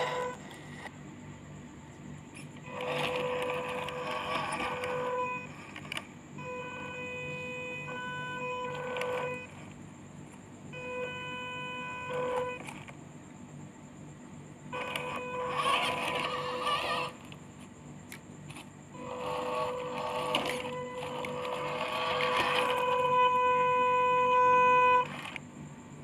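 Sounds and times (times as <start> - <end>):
electric motor and gearbox whining: 0.0 - 0.9, 2.4 - 13.0, 14.7 - 25.5.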